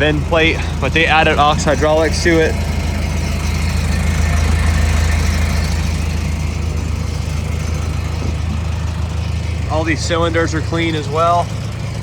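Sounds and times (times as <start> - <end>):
excavator diesel engine idling: 0.0 - 12.0.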